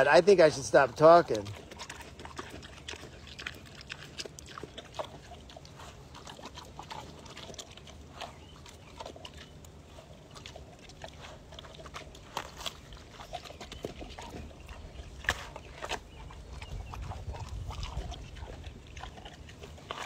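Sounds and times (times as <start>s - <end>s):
pig chewing watermelon: 0.0s - 20.0s.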